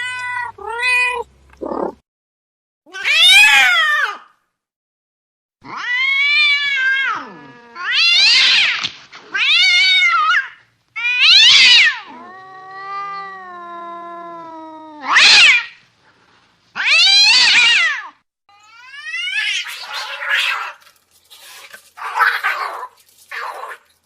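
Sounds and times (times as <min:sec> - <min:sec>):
cat yowling: 0:00.0 - 0:02.0, 0:02.9 - 0:04.3, 0:05.6 - 0:15.8, 0:16.8 - 0:20.8, 0:21.4 - 0:23.8.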